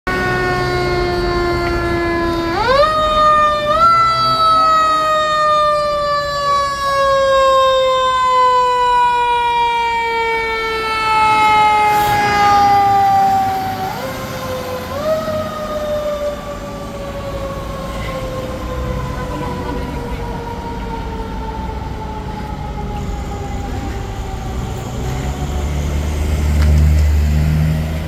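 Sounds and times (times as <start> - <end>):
fire truck siren wailing: 0.1 - 28.0.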